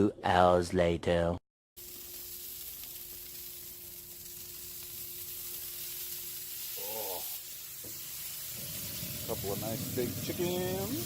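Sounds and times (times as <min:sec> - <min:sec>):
sizzling hiss from smoker: 0:01.8 - 0:11.0.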